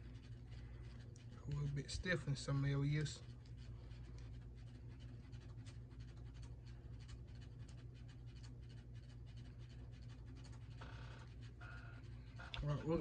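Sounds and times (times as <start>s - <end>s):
plastic figure scratching and ticking: 0.0s - 13.0s
steady low hum: 0.0s - 13.0s.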